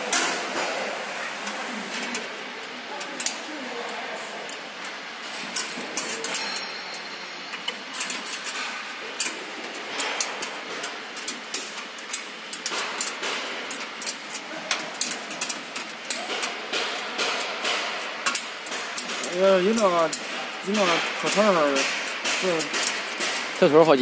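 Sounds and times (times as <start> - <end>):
workshop background noise: 0.0 - 24.0.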